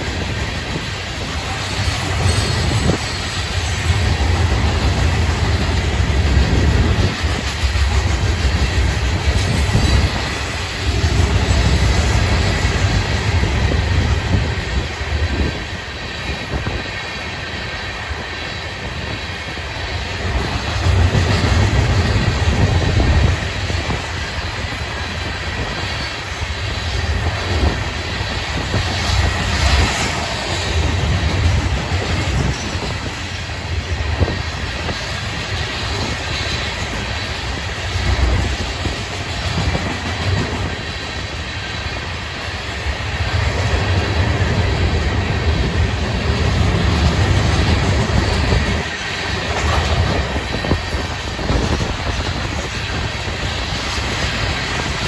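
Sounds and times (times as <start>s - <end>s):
train cars rumbling on rails: 0.0s - 55.0s.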